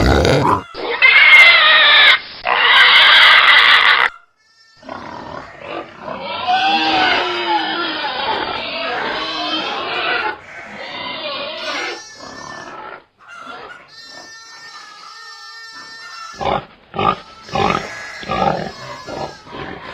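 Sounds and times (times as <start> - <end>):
pigs grunting and squealing: 0.0 - 4.2, 4.8 - 19.9.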